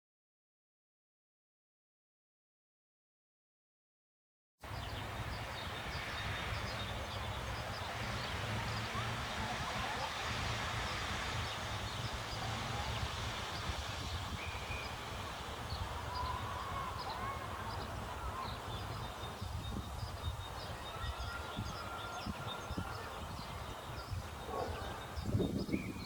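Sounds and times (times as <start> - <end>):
leaves rustling in wind: 4.6 - 26.0
wind rumbling on microphone: 4.6 - 26.0.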